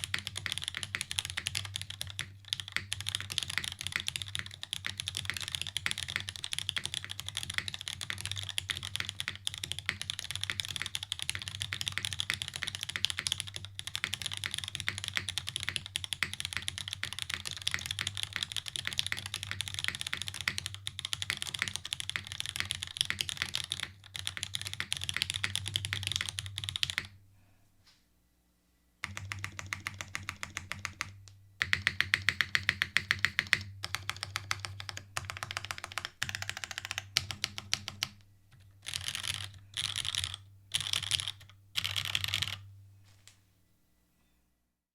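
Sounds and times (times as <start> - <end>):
mechanical keyboard typing: 0.0 - 27.1, 29.0 - 42.6.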